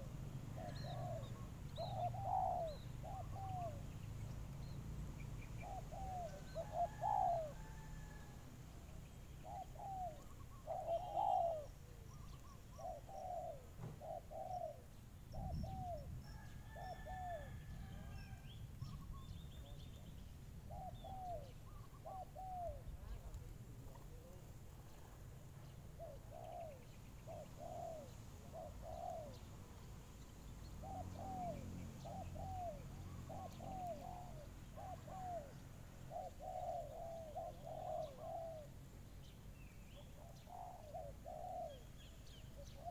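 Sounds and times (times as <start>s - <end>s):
doves cooing: 0.0s - 4.3s, 5.4s - 8.5s, 9.3s - 29.6s, 30.8s - 38.9s, 40.0s - 42.9s
small birds chirping: 0.0s - 8.1s, 8.9s - 17.2s, 18.0s - 42.9s.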